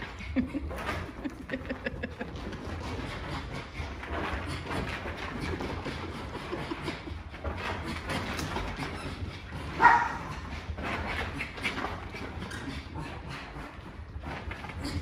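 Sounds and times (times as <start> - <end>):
dog paws scrabbling on floor: 0.0 - 15.0.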